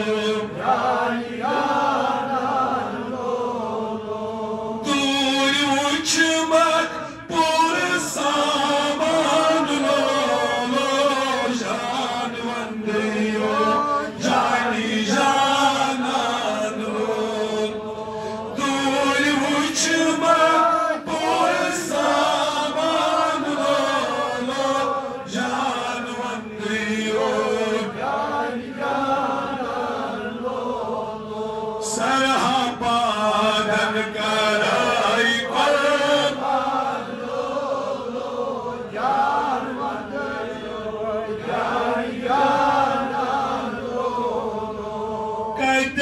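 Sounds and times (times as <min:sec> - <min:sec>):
man chanting devotional song: 0:00.0 - 0:46.0.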